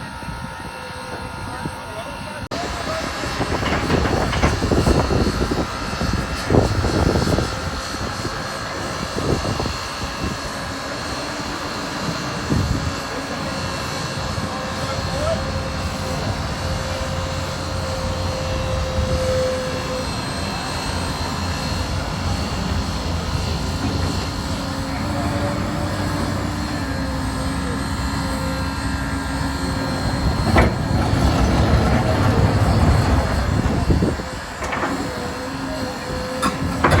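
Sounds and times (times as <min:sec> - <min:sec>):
train rumbling by: 0:00.0 - 0:37.0.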